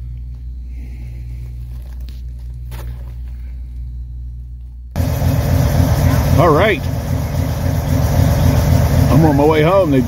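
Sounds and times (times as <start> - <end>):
engine idling hum: 0.0 - 10.0.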